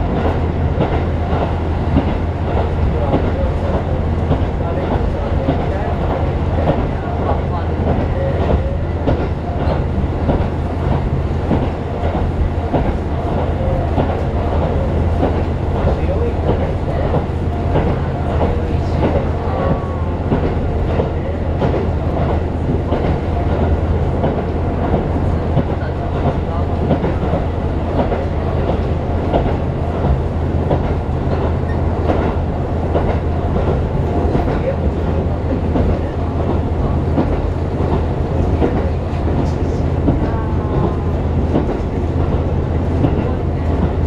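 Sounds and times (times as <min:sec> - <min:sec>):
diesel train engine drone: 0:00.0 - 0:44.0
train wheels clattering on rails: 0:00.0 - 0:44.0.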